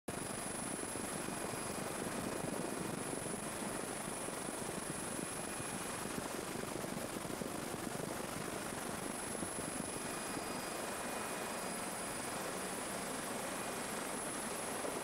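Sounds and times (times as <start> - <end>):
helicopter rotor drone: 0.1 - 15.0.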